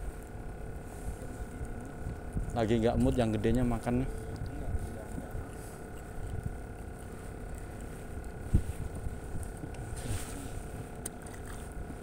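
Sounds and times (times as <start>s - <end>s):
faint steady hum: 0.0s - 12.0s
wind rumbling on microphone: 0.0s - 12.0s.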